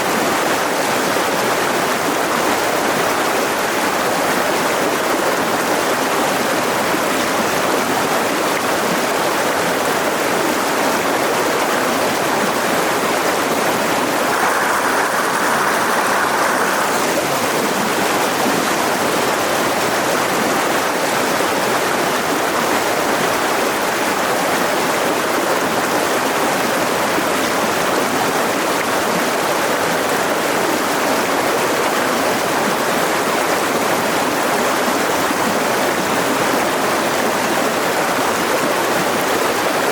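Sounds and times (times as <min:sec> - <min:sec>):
river rushing over rocks: 0:00.1 - 0:39.9.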